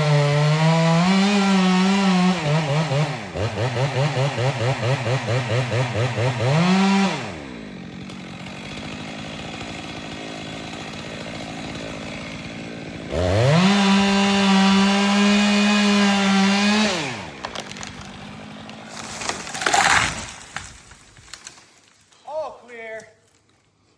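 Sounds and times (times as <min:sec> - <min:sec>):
chainsaw idling and revving: 0:00.0 - 0:21.8.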